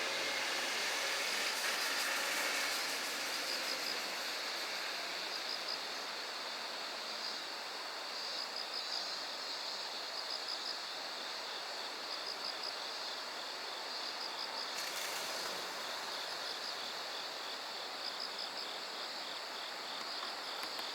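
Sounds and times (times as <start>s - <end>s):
insects chirping: 0.0s - 20.9s
steady hiss: 0.0s - 20.9s.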